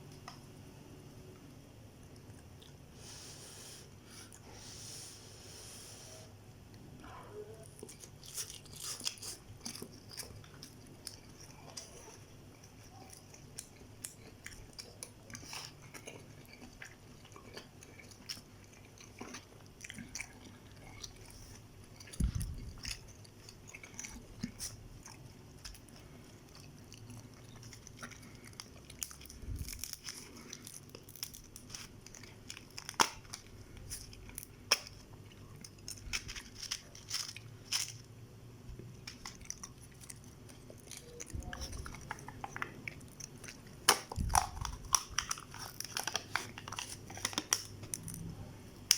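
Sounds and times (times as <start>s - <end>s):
close chewing and mouth sounds: 1.8s - 5.8s, 6.7s - 48.9s.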